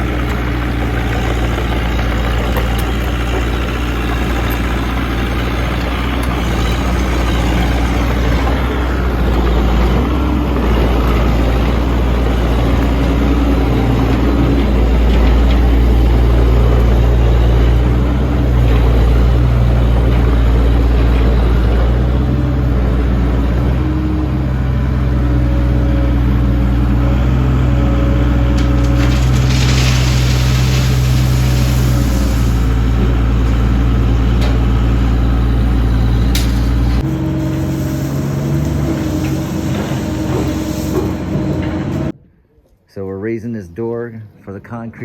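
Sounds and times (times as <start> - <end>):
large engine humming: 0.0 - 42.2.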